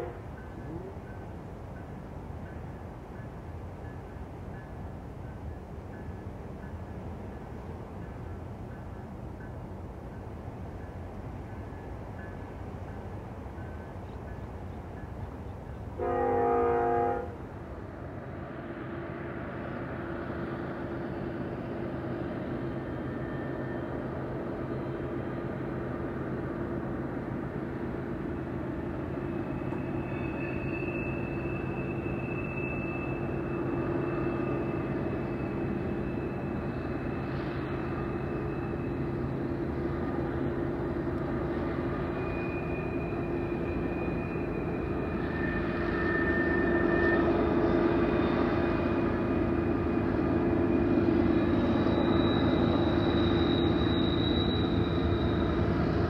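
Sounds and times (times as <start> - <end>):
diesel locomotive engines droning: 0.0 - 56.0.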